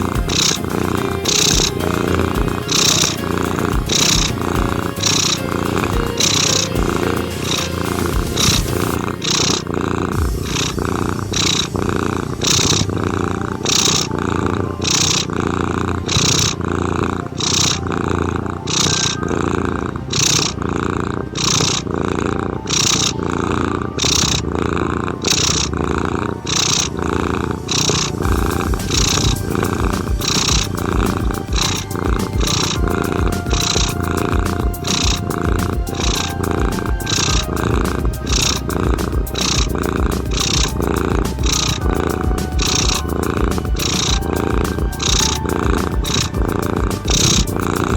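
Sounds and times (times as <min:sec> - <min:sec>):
soft ambient music: 0:00.0 - 0:47.9.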